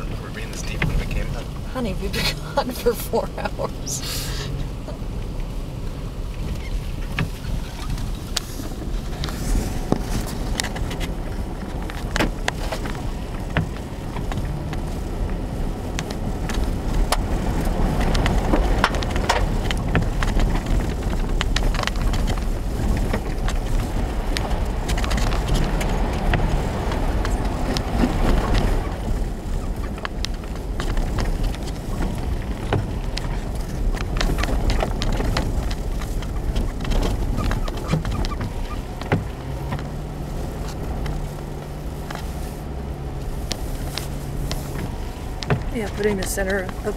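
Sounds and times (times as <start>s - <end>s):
engine and tyres rumbling: 0.0s - 46.9s.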